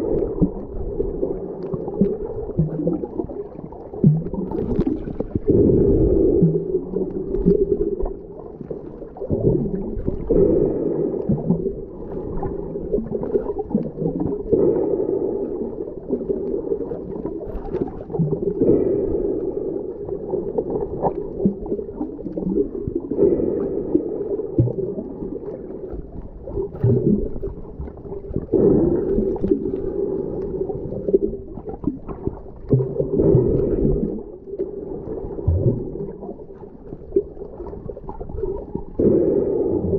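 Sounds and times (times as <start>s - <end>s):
muffled underwater water sound: 0.0s - 39.9s.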